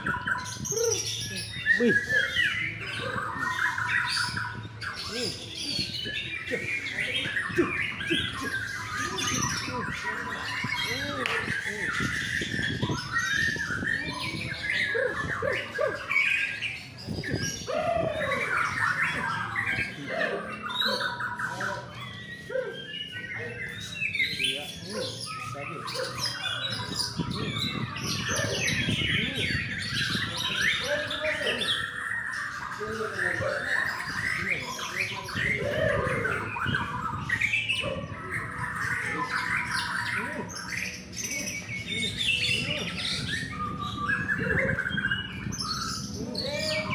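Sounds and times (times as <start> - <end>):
birds singing whistled trills: 0.0 - 46.9.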